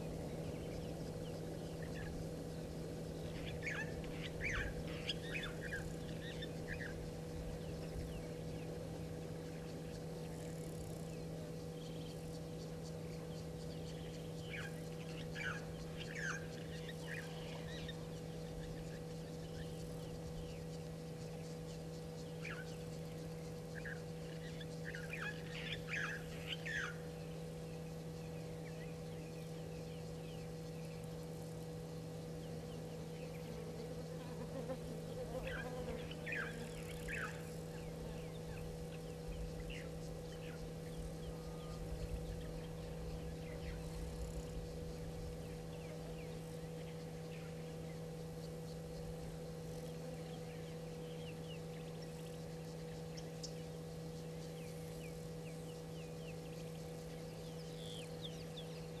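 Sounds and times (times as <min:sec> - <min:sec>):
birds chirping: 0:00.0 - 0:59.0
low electrical hum: 0:00.0 - 0:59.0.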